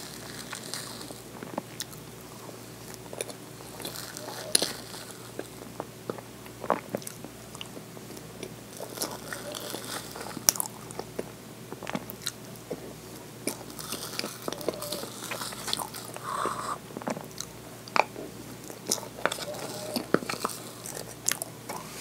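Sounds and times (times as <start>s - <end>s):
wet chewing and smacking: 0.1s - 22.0s.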